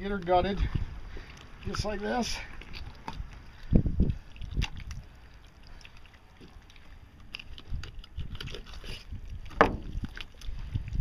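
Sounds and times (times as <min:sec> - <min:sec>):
wet squelches of fish guts: 0:00.7 - 0:11.0.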